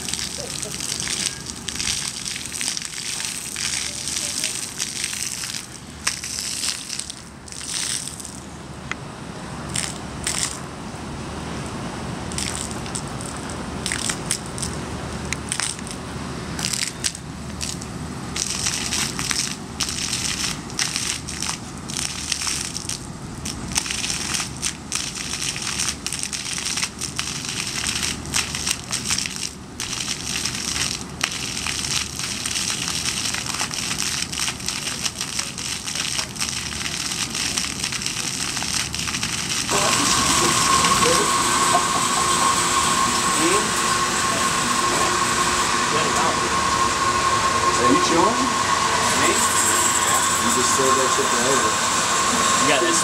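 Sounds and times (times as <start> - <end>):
water rushing from hose: 0.0 - 8.5, 9.7 - 10.6, 12.2 - 14.8, 15.4 - 16.0, 16.6 - 53.0
water splashing on pavement: 0.0 - 8.5, 9.7 - 10.6, 12.2 - 16.0, 16.6 - 46.2.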